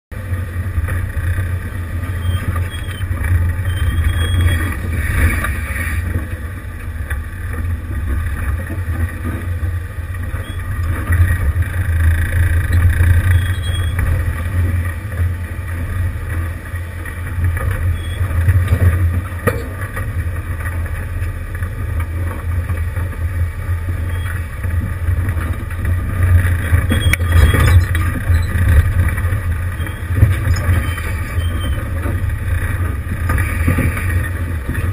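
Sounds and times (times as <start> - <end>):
engine rumbling at low revs: 0.1 - 34.9.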